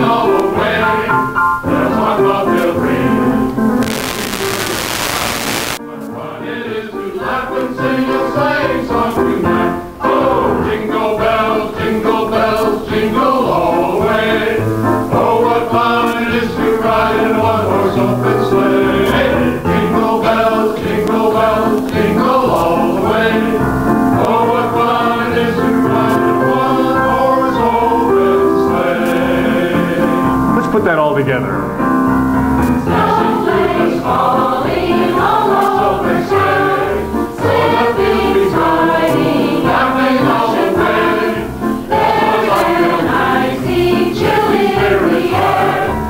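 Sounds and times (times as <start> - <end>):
male vocal group singing: 0.0 - 3.4, 6.0 - 30.4, 32.8 - 46.0.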